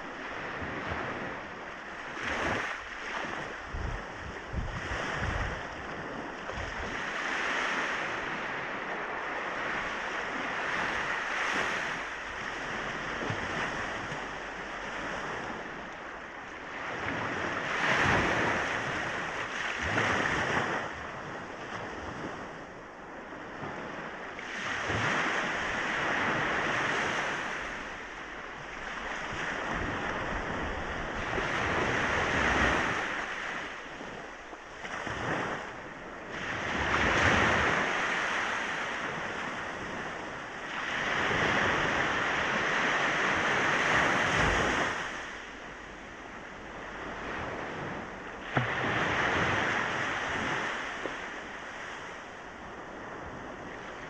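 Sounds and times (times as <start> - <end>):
waves breaking on a beach: 0.0 - 54.0
wind on microphone: 0.0 - 54.0.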